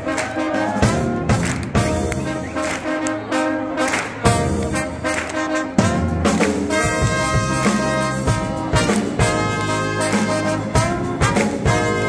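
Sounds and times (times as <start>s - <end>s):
brass band playing jazz: 0.0s - 12.0s.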